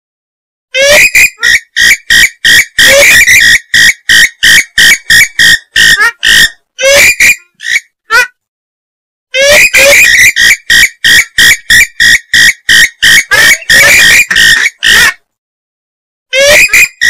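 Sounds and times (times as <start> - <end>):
recorded bird calls: 0.8 - 8.4, 9.4 - 15.2, 16.3 - 17.0.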